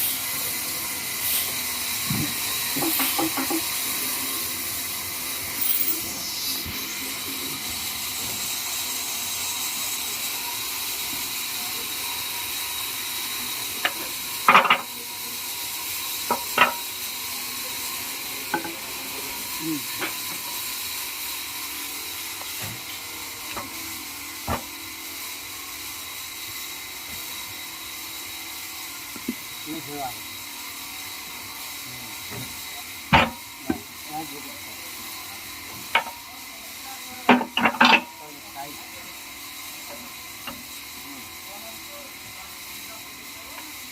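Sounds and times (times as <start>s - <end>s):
sawmill machinery hiss: 0.0s - 43.9s
thin steady whine: 0.0s - 43.9s.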